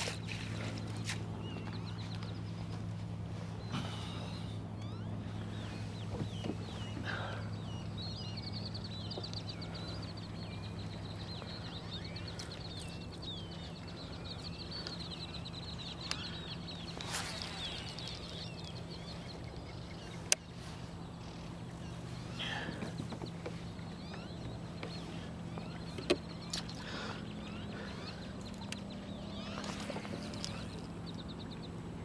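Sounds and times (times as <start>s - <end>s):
birds chirping and chattering: 0.0s - 32.0s
steady low hum: 0.0s - 32.0s.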